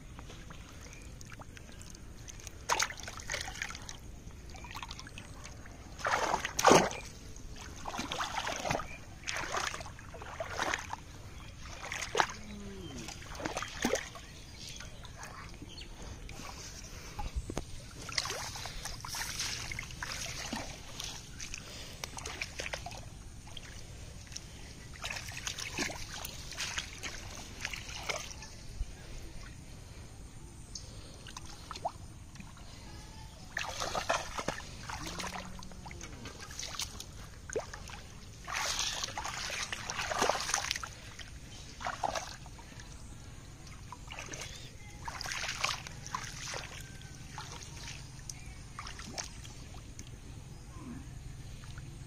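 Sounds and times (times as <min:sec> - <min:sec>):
muddy water splashing: 0:00.1 - 0:52.0.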